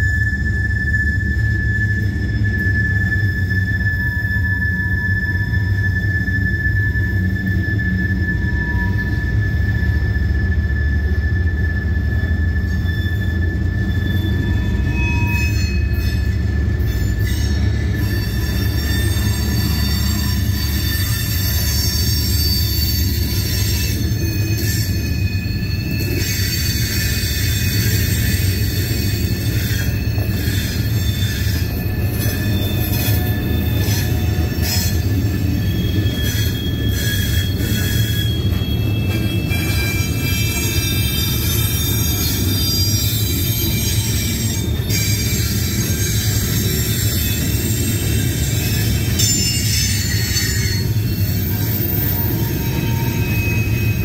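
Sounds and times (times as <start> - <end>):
high-pitched wheel squeals: 0.0 - 54.0
steel wheels rumbling on rail: 0.0 - 54.0.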